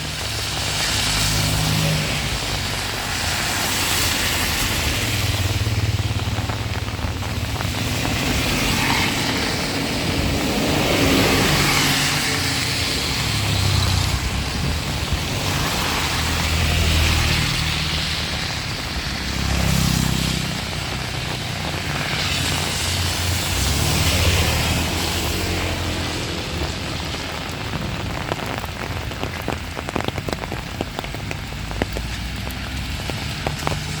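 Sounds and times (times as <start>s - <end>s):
heavy rain hissing: 0.0s - 34.0s
wind gusts rumbling: 0.0s - 34.0s.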